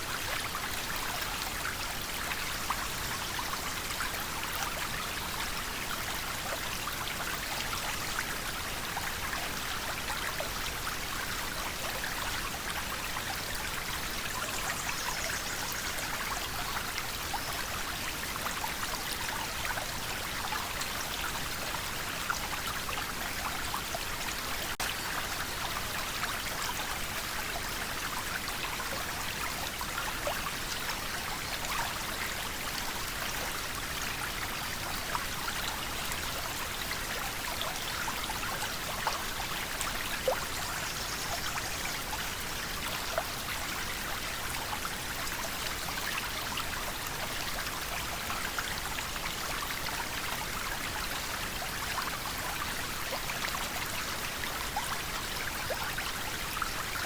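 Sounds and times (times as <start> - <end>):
river water flowing and splashing: 0.0 - 57.0.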